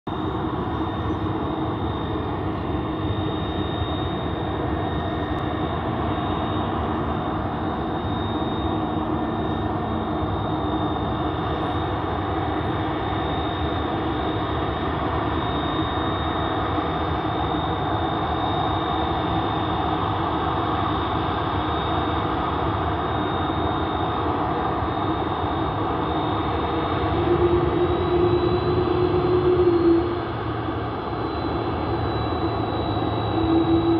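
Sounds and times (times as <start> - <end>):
jet engines with turbine whine: 0.0 - 33.9.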